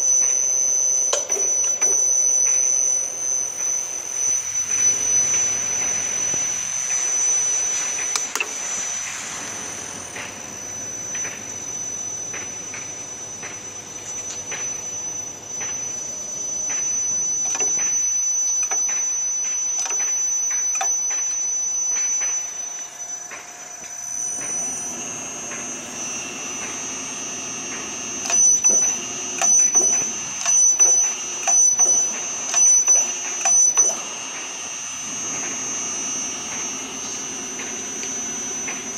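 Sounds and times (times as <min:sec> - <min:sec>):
drilling machine high whine: 0:00.0 - 0:38.9.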